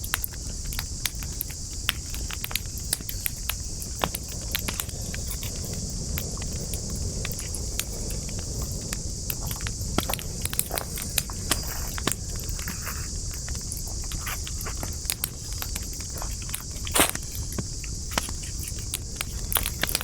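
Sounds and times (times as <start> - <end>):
campfire crackling: 0.0 - 20.0
fire popping: 0.0 - 20.0
high-pitched hiss: 0.0 - 20.0.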